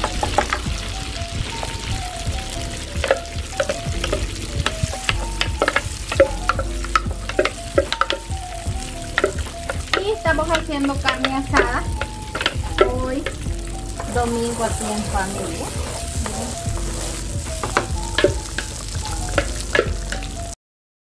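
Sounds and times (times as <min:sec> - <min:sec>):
hot oil sizzling and popping: 0:00.0 - 0:20.6.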